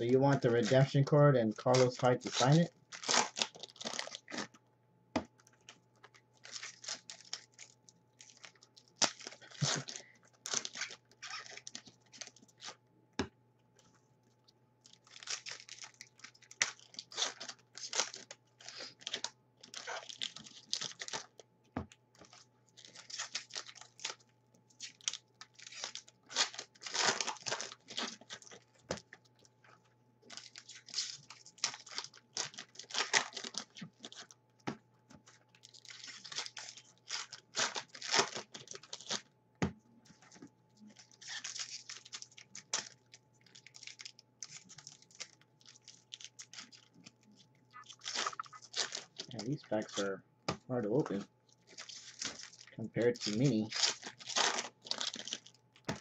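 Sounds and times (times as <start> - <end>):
wrappers torn and crinkled: 0.0 - 4.6, 5.4 - 12.8, 14.8 - 21.4, 22.1 - 34.4, 35.2 - 39.3, 40.2 - 50.1, 50.9 - 56.0.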